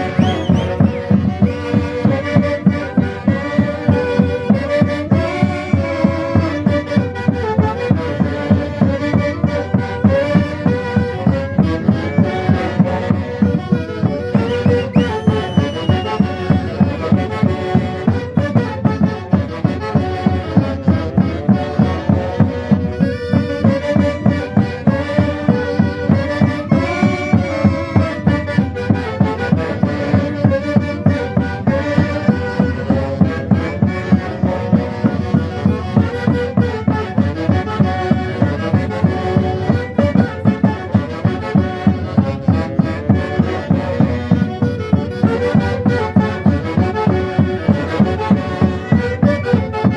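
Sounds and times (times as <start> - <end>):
steady driving drum beat: 0.0 - 49.9
wind instruments playing melody: 0.0 - 49.9.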